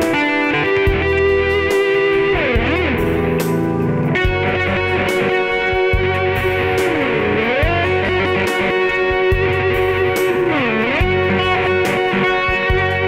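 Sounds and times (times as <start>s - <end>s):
electric guitar lead notes: 0.0s - 13.0s
keyboard chords: 0.0s - 13.0s
low bass notes: 0.0s - 13.0s.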